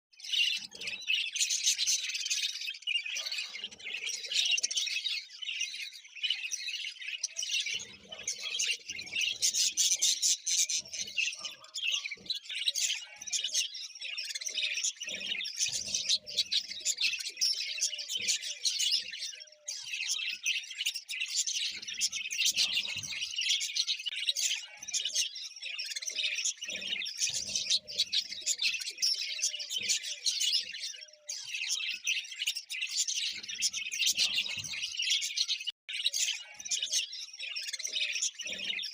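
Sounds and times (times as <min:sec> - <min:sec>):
budgerigars chattering: 0:00.2 - 0:38.9.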